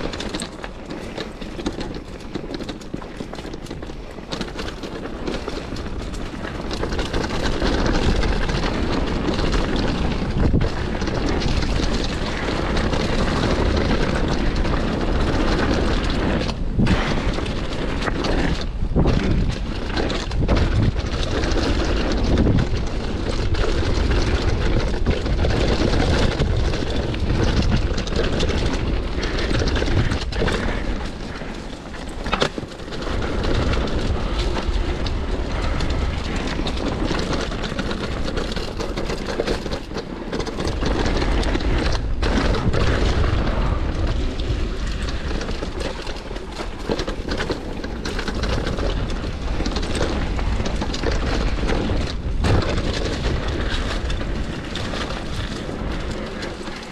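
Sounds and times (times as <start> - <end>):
tyres crunching over dirt: 0.0 - 56.9
wind buffeting microphone: 0.0 - 56.9.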